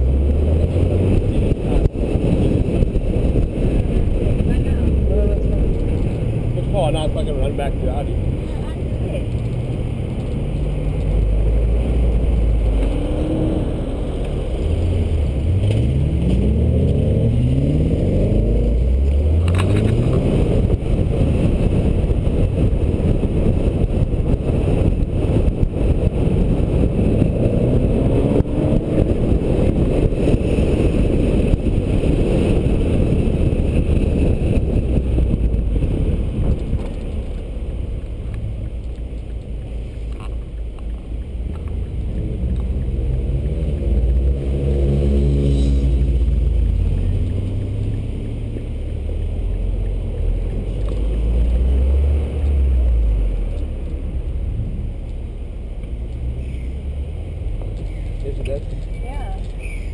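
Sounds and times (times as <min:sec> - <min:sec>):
car engines revving: 0:00.0 - 0:59.9
road noise: 0:00.0 - 0:59.9
wind noise: 0:00.0 - 0:59.9.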